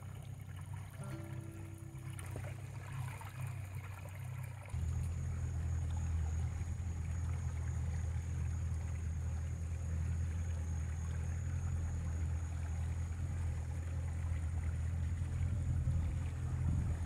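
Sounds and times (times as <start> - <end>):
outboard motor running: 0.0 - 17.0
water washing along hull: 0.0 - 17.0.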